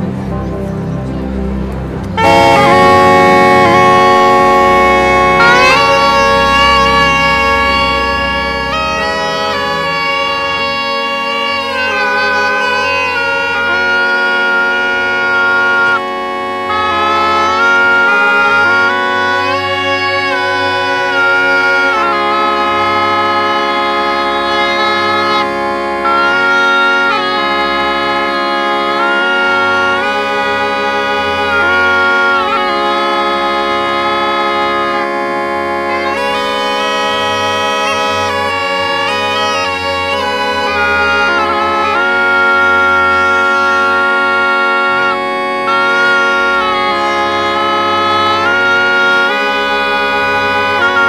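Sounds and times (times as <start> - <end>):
bagpipe melody over drones: 0.0 - 51.0.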